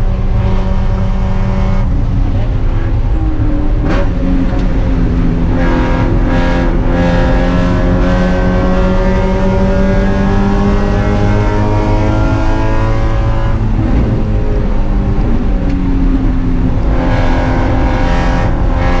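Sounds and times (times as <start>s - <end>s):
car engine at full throttle: 0.0s - 19.0s
gear change: 0.0s - 19.0s.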